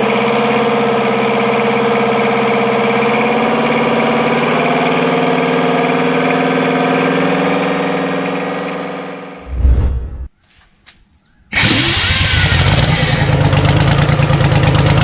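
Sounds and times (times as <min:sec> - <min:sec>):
diesel engine running steadily: 0:00.0 - 0:09.6, 0:11.6 - 0:15.0.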